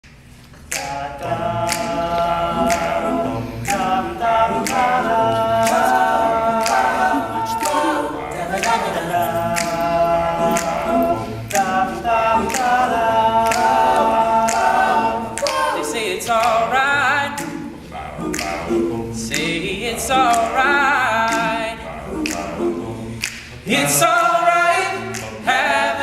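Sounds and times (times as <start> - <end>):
percussive clicks keeping beat: 0.7 - 23.7, 24.9 - 26.0
male group singing chords: 0.7 - 26.0.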